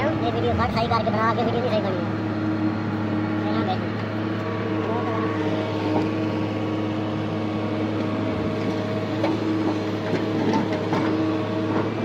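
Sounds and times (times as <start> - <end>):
excavator diesel engine droning: 0.0 - 12.0
hydraulic whining: 0.0 - 12.0.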